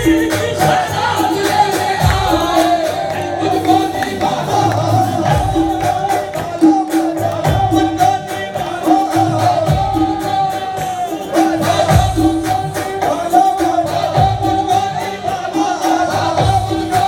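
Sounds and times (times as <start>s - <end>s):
tabla rhythm: 0.0s - 17.0s.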